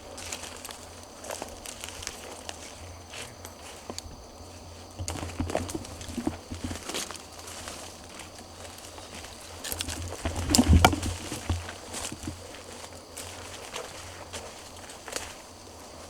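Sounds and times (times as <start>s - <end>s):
footsteps on forest floor: 0.0s - 16.0s.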